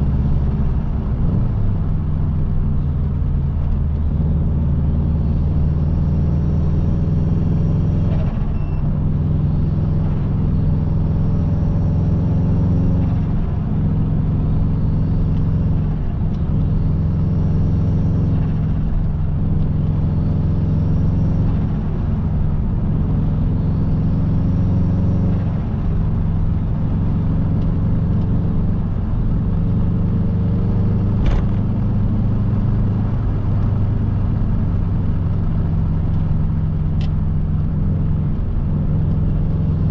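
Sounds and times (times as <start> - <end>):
car engine shifting gears: 0.0 - 39.9.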